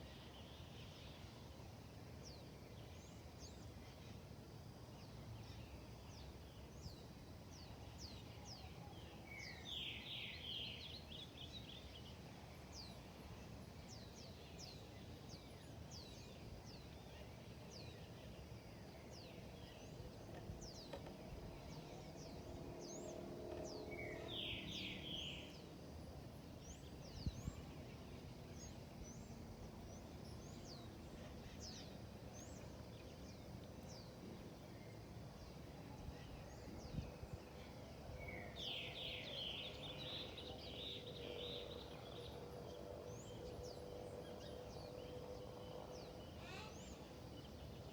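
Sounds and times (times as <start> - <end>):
faint background hiss: 0.0 - 47.9.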